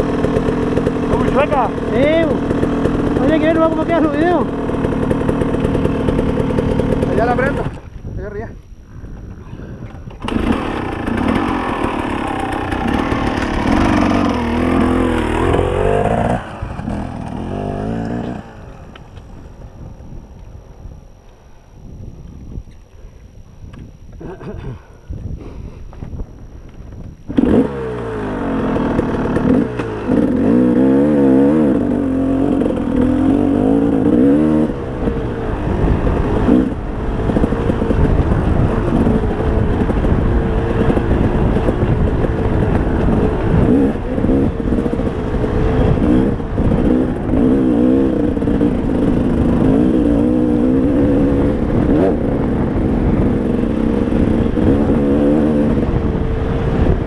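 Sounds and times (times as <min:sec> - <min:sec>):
dirt bike engine revving: 0:00.0 - 0:07.9, 0:10.0 - 0:20.0, 0:26.8 - 0:57.0.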